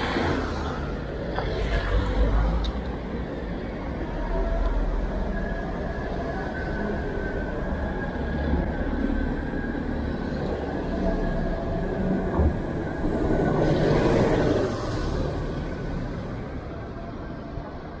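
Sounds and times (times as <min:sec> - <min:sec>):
car and bus engines rumbling: 0:00.0 - 0:18.0.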